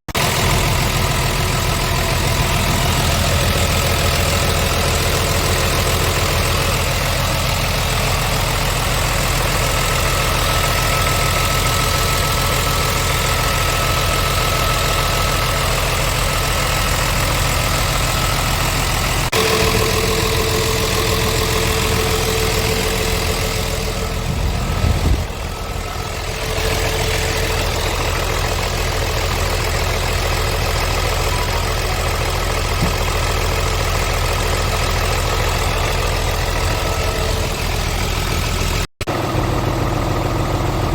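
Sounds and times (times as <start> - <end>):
diesel truck engine idling: 0.1 - 40.9.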